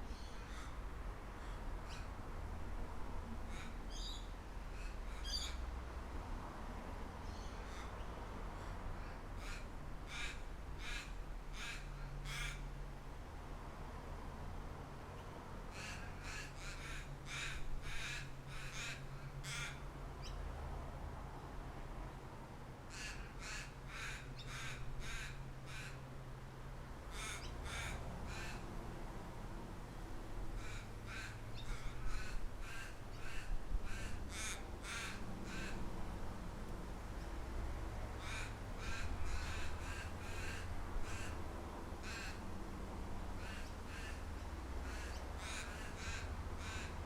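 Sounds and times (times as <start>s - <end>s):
low rumble of breeze: 0.0s - 47.0s.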